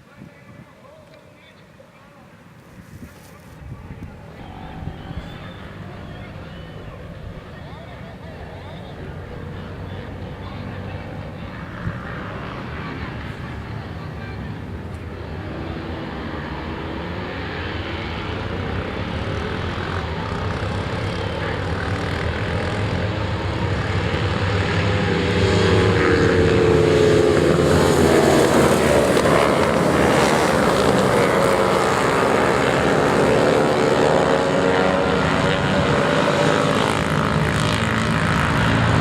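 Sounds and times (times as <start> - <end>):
racing motorcycle engines: 2.4 - 39.0.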